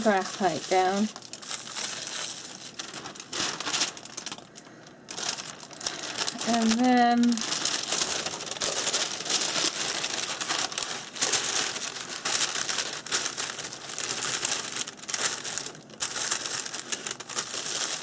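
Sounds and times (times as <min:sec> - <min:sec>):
paper rustling and crinkling: 0:00.0 - 0:18.0.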